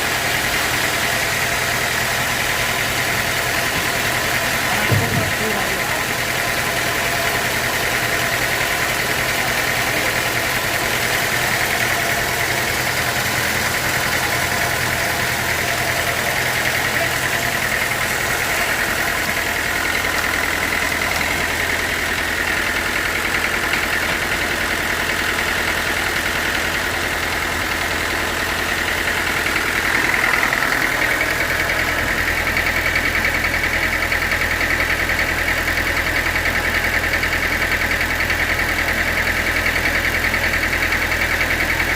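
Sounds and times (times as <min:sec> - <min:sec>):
sawmill saw droning with whine: 0:00.0 - 0:41.9.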